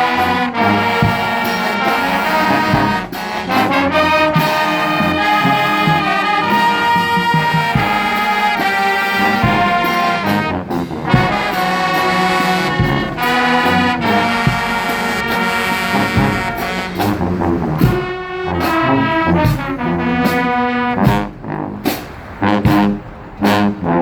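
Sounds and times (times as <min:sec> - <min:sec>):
drum hits: 0:00.0 - 0:23.1
brass horns playing: 0:00.0 - 0:24.0.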